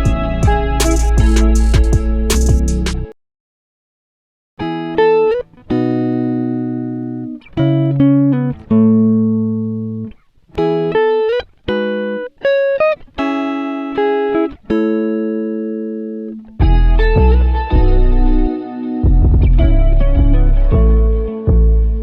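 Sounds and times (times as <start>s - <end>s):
plucked guitar music: 0.0s - 3.2s, 4.6s - 22.0s.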